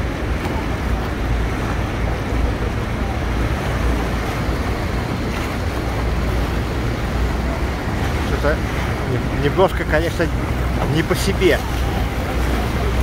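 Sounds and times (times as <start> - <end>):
river churning around a boat: 0.0 - 13.0
white water rushing: 0.0 - 13.0
wind rumbling on microphone: 0.0 - 13.0.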